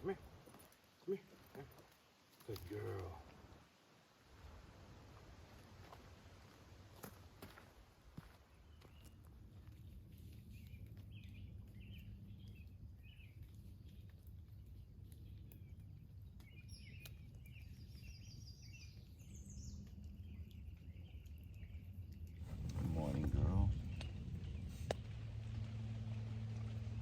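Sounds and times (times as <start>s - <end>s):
low background rumble: 4.3s - 27.0s.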